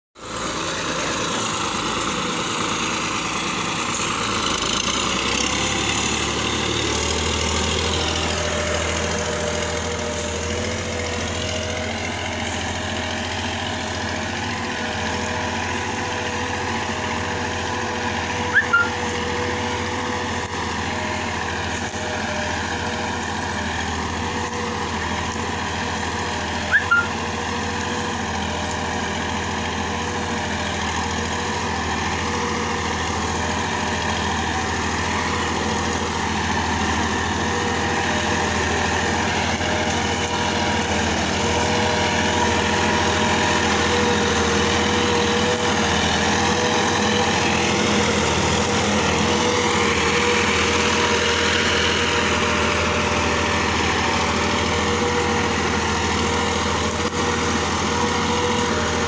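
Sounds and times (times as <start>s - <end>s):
tractor engine running: 0.2s - 59.0s.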